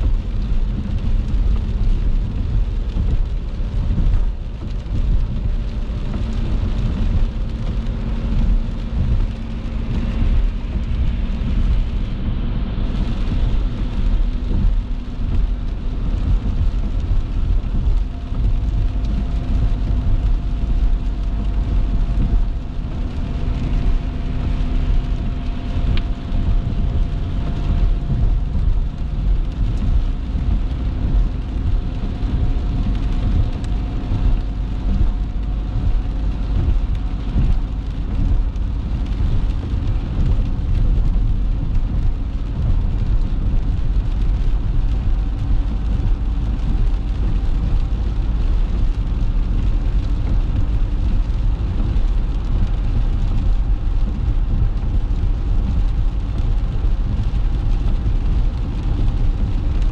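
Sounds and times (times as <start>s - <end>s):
car road noise rumble: 0.0s - 59.9s.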